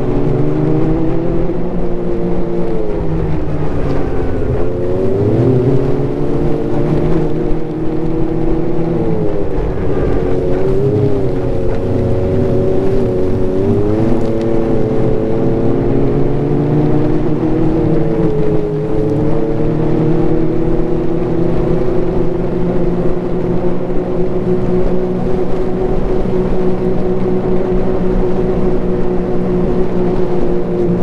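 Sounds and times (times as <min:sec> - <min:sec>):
snowmobile engine running: 0:00.0 - 0:31.0.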